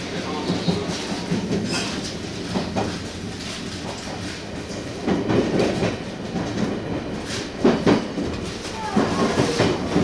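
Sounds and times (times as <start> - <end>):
train wheels rumbling and clacking: 0.0 - 10.0.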